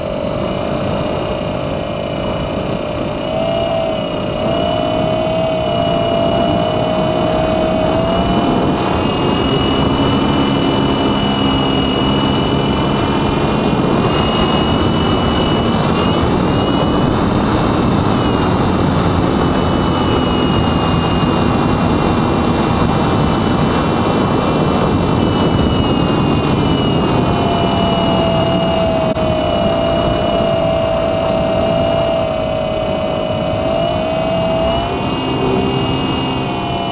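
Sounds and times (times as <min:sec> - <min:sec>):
airflow rushing over microphone: 0:00.0 - 0:36.9
electric motor and propeller whining: 0:00.0 - 0:36.9.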